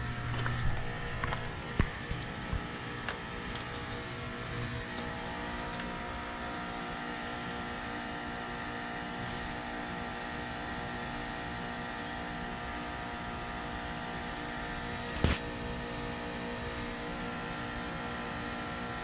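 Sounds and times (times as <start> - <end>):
heat pump compressor humming: 0.0 - 19.0.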